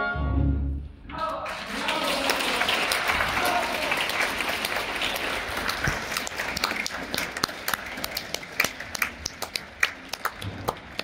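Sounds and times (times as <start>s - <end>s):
audience applause: 1.3s - 11.0s.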